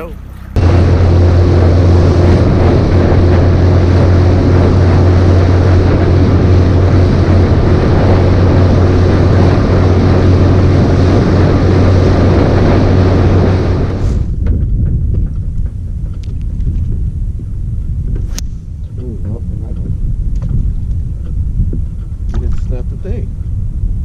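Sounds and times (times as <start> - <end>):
outboard motor drone: 0.0 - 24.0
wind and water rushing: 0.0 - 24.0.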